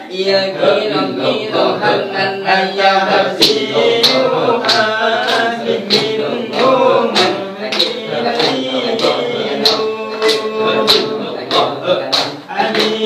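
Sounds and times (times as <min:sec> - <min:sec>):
men chanting together: 0:00.0 - 0:13.0
sharp rhythmic accents: 0:01.1 - 0:13.0.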